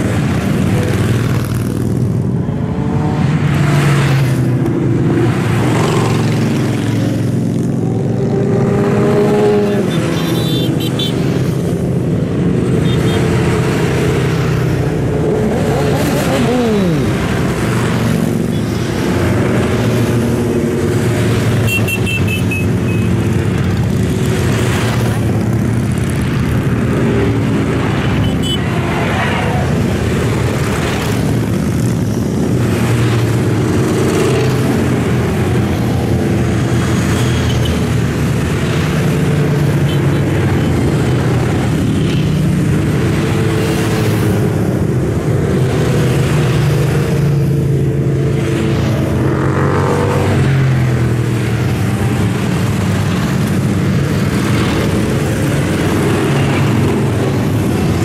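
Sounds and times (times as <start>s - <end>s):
motorcycles riding past: 0.0s - 58.0s.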